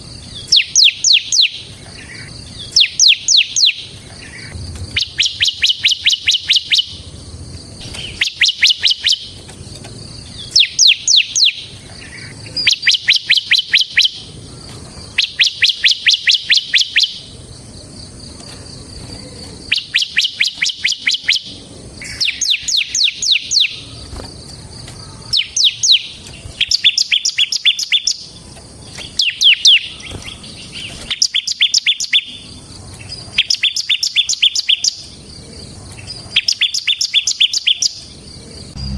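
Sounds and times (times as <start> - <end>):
bird singing rattling bursts: 0.0 - 17.5, 19.6 - 24.6, 25.3 - 35.1, 36.1 - 38.2.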